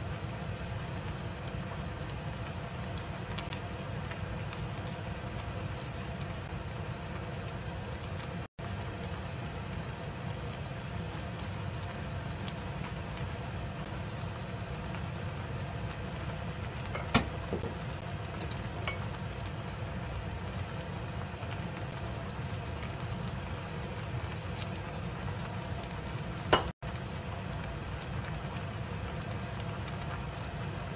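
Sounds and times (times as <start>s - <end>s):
stew bubbling in a pot: 0.0s - 30.9s.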